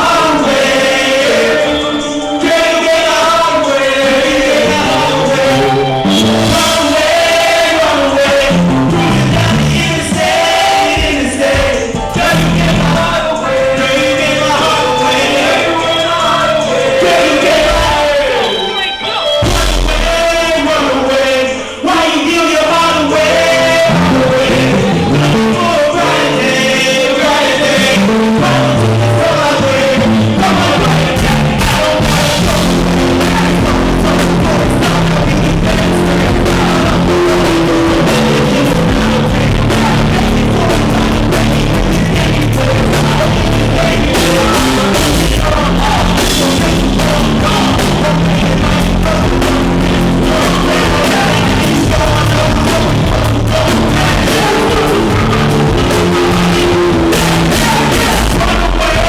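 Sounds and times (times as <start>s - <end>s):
live band playing loudly: 0.0s - 59.0s
person singing: 0.0s - 59.0s.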